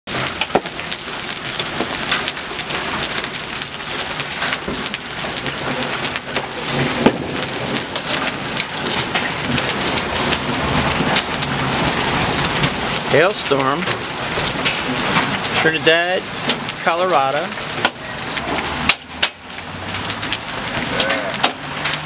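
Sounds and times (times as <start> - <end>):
hail and rain clattering: 0.1 - 22.0.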